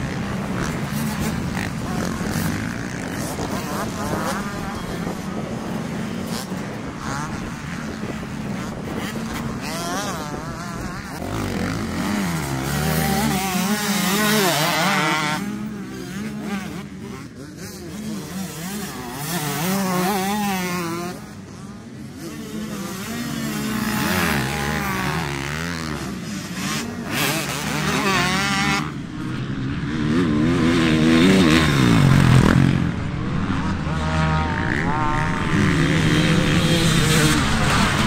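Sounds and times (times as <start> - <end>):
motocross bikes revving past: 0.0 - 38.0.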